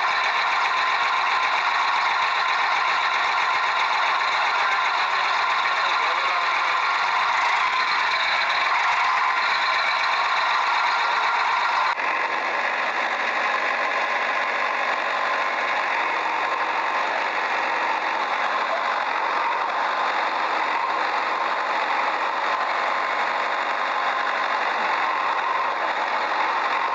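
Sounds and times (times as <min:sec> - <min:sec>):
engine-like running noise: 0:00.0 - 0:26.9.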